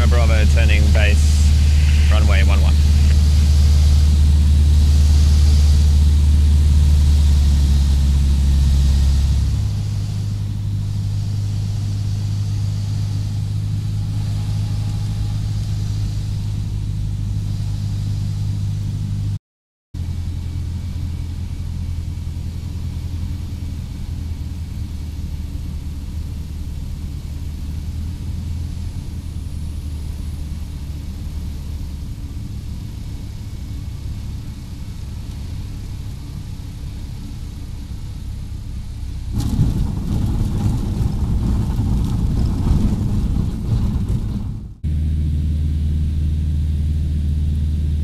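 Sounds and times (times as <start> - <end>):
small plane engine: 0.0 - 19.4, 20.0 - 48.0
wheels rumbling on grass runway: 0.0 - 19.4, 20.0 - 48.0.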